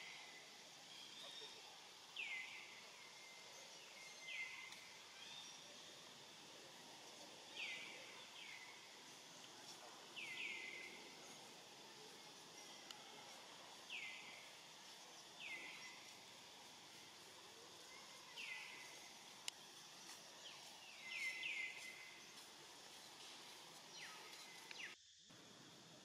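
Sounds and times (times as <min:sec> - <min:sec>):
high insect hiss: 0:00.0 - 0:26.0.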